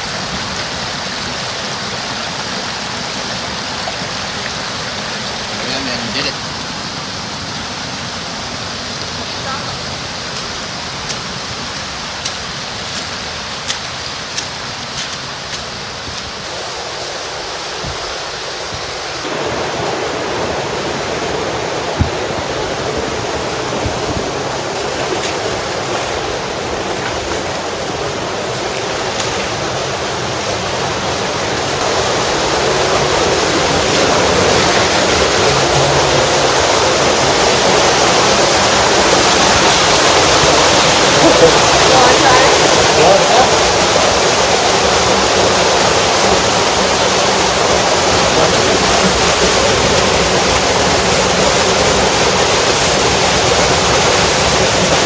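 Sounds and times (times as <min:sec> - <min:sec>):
creek rushing over rocks: 0:00.0 - 0:55.0.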